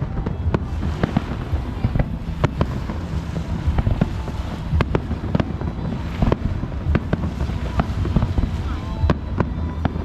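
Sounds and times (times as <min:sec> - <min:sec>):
continuous low rumble: 0:00.0 - 0:10.0
firework bangs and crackles: 0:00.0 - 0:10.0.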